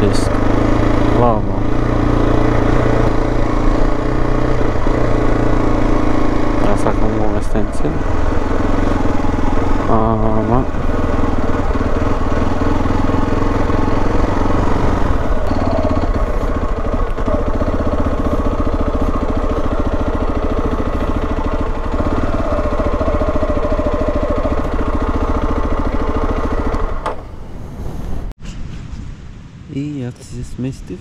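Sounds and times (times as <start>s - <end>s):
motorcycle engine running: 0.0s - 27.4s.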